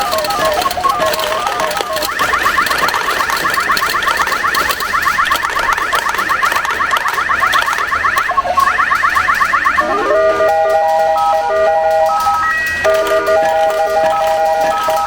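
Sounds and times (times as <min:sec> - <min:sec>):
light ticking clatter: 0:00.0 - 0:15.0
rapid rising electronic beeps: 0:00.0 - 0:15.0.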